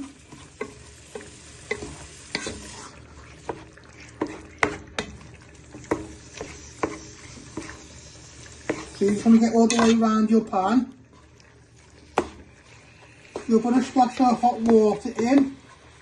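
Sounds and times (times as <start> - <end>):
food sizzling: 0.0 - 16.0
wooden spoon scraping a pan: 0.0 - 16.0.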